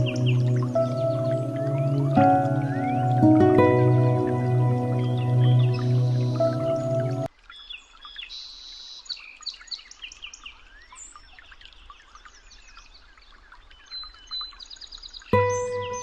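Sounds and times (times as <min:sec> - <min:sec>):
small birds singing: 0:00.0 - 0:16.0.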